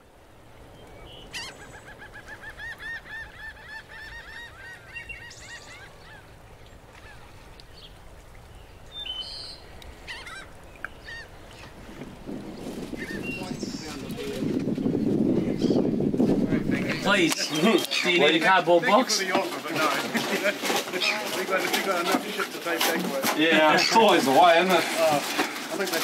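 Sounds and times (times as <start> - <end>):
bird calling: 0.0 - 26.0.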